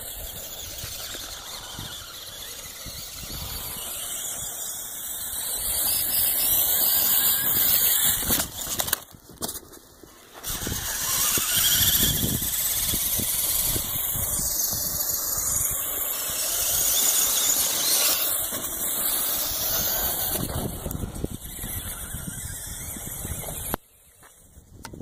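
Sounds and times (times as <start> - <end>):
electric motor whine: 0.0 - 9.2, 10.2 - 24.7
tyres rumbling on rough ground: 0.0 - 24.6.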